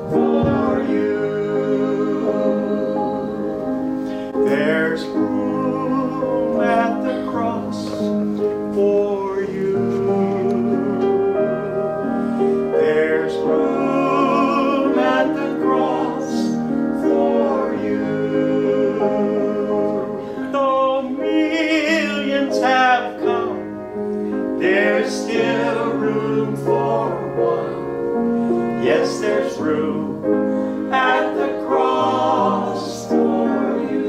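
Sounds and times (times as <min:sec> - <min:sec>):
man singing gospel song: 0:00.0 - 0:03.3, 0:04.4 - 0:11.4, 0:12.7 - 0:23.7, 0:24.6 - 0:27.9, 0:28.6 - 0:34.0
keyboard sustained chords: 0:00.0 - 0:34.0.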